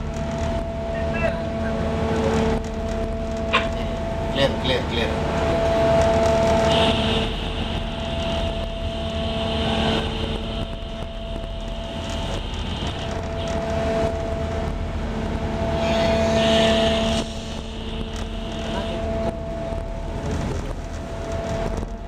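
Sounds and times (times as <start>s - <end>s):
ship engine machinery humming: 0.0s - 22.0s.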